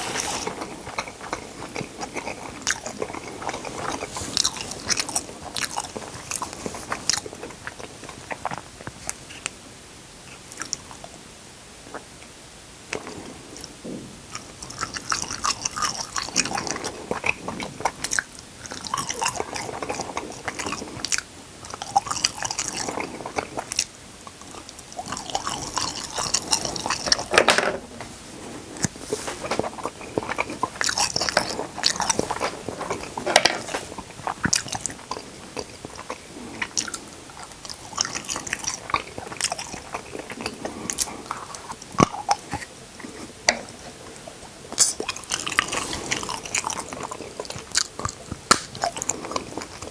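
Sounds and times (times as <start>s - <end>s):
food crackling: 0.0s - 9.2s, 12.9s - 49.9s
chewing and biting food: 0.0s - 9.6s, 10.2s - 11.2s, 12.9s - 27.3s, 28.4s - 49.9s.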